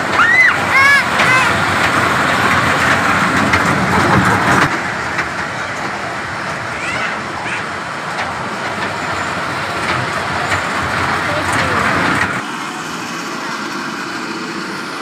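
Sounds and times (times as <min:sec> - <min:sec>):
mechanical rushing noise: 0:00.0 - 0:15.0.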